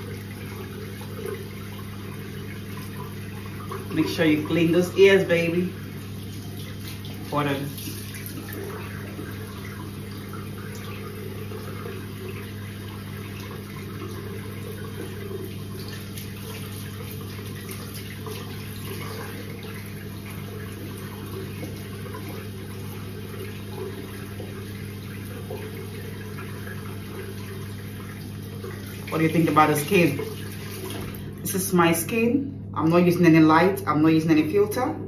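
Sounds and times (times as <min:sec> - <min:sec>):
face rinsing splashes: 0:00.0 - 0:31.5
tap water running into sink: 0:00.0 - 0:31.5
steady low hum: 0:00.0 - 0:35.0.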